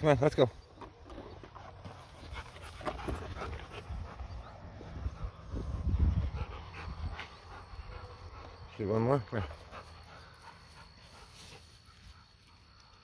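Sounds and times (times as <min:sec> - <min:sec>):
dogs panting: 0:01.0 - 0:13.0.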